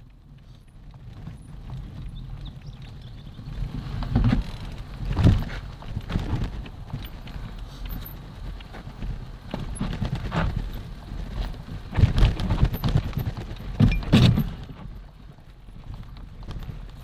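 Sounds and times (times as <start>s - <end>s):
mountain bike rattling on dirt trail: 0.0s - 17.0s.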